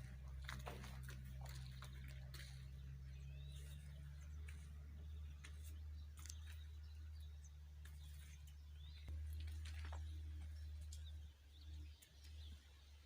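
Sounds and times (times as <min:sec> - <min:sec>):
steady low rumble: 0:00.0 - 0:12.5.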